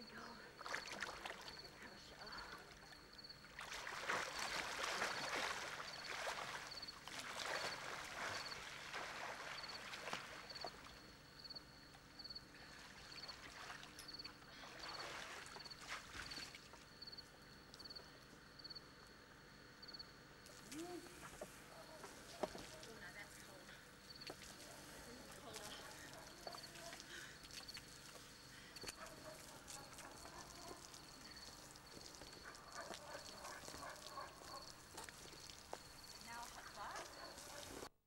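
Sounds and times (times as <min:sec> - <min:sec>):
pool water splashing: 0:00.0 - 0:11.3, 0:12.5 - 0:17.0, 0:20.5 - 0:37.9.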